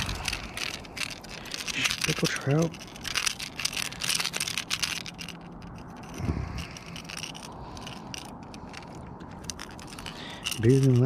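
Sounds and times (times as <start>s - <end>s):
handling scrapes: 0.0s - 11.0s.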